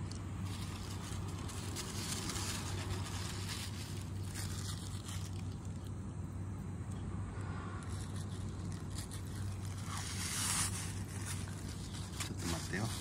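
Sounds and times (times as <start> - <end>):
distant city traffic hum: 0.0 - 13.0.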